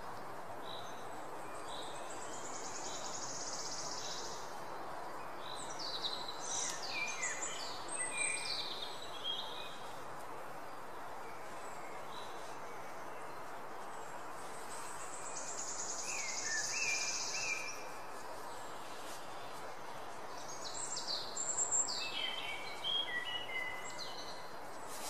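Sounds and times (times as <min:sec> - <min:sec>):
birdsong: 0:00.0 - 0:25.0
steady background hiss: 0:00.0 - 0:25.0.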